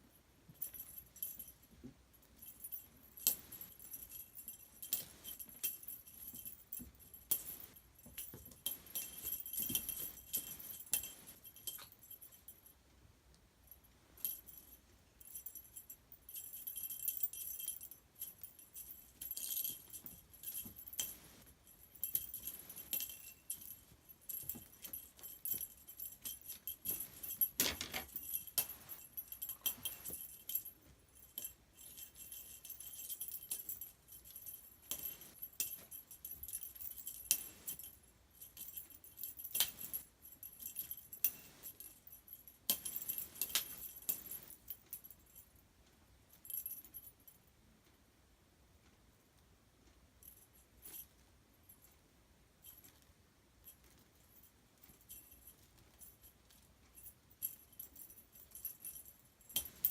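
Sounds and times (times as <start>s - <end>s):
small jingle bell jingling: 0.0s - 12.9s, 13.6s - 45.6s, 46.3s - 47.5s, 50.1s - 59.9s.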